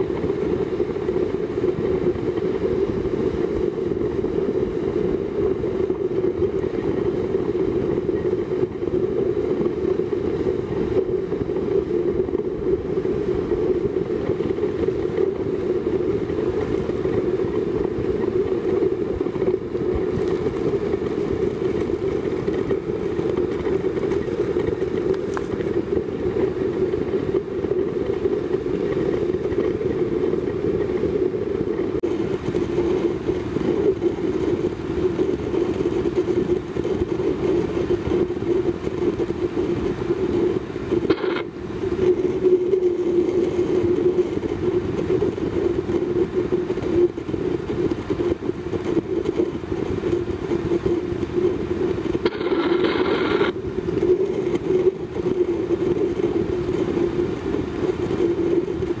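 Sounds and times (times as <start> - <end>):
stove burning with deep rumble: 0.0 - 59.0.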